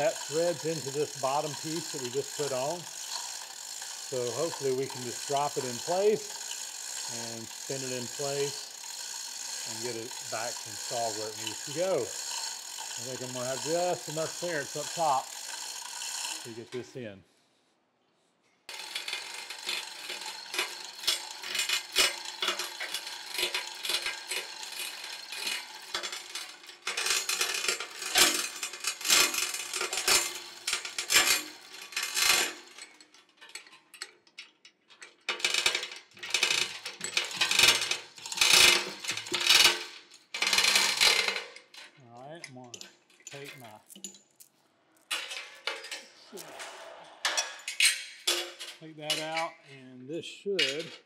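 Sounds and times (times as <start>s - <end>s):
hoist chain rattling and clicking: 0.0s - 16.6s, 18.7s - 42.0s, 42.7s - 44.3s.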